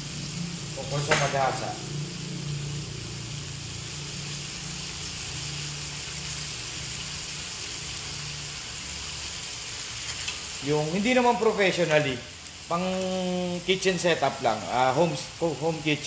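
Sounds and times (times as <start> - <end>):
chicken sizzling in a skillet: 0.0 - 16.0.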